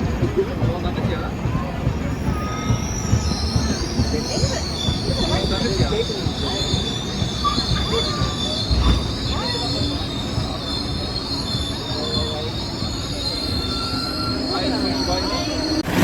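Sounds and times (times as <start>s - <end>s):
train rumble: 0.0s - 16.0s
train wheel squeal: 0.0s - 16.0s.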